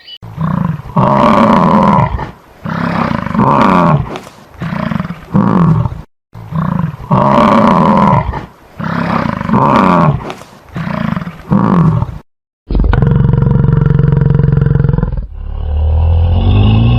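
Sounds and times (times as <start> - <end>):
large animal roaring: 0.3 - 10.2, 10.8 - 16.9.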